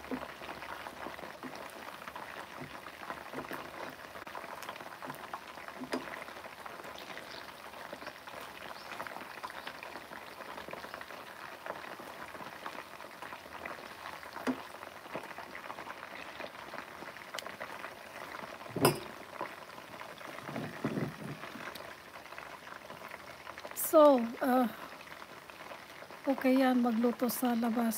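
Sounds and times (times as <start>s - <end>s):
chicken wings frying in oil: 0.0s - 27.9s.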